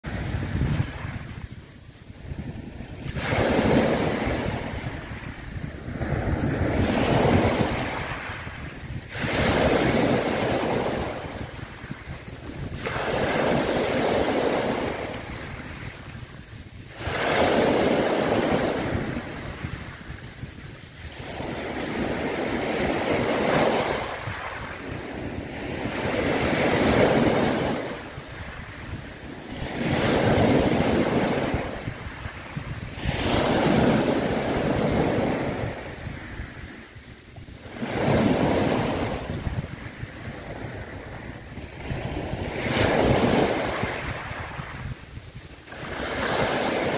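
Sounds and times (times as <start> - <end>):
sea waves washing: 0.0 - 46.9.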